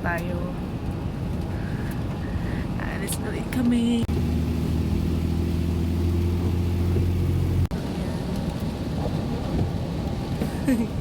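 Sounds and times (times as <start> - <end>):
car driving on wet road: 0.0 - 11.0
car engine humming: 0.0 - 11.0.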